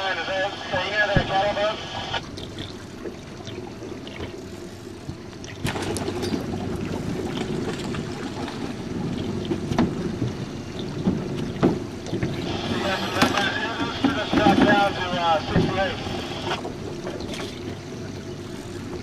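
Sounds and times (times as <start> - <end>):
water lapping against boat hull: 0.8 - 19.0.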